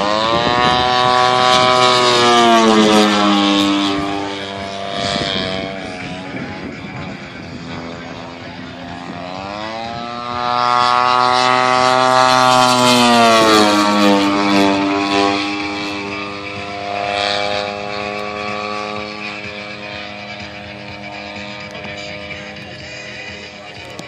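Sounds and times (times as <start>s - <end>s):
model airplane engine and propeller: 0.0s - 24.0s.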